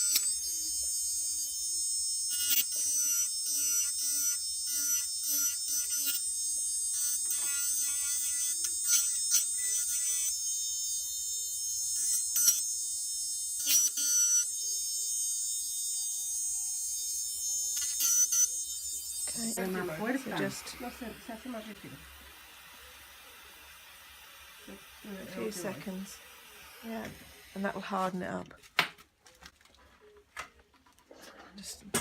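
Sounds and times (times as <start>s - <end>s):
rotary tool high whine: 0.0s - 27.6s.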